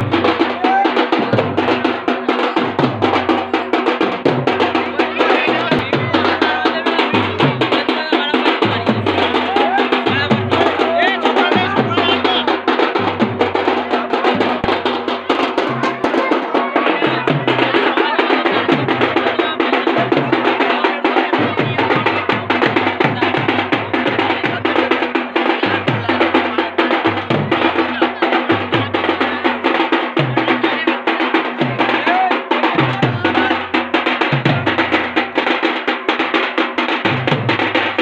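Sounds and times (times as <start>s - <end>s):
fast folk drumming: 0.0s - 38.0s.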